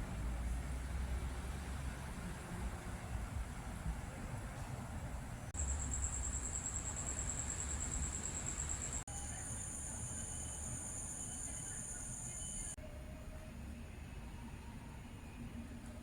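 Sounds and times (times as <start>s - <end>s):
low city rumble: 0.0s - 16.0s.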